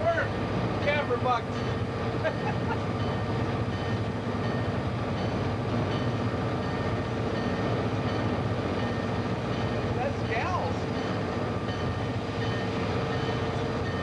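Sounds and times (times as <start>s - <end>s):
locomotive engine drone: 0.0s - 14.0s
wheels rumbling on rails: 0.0s - 14.0s.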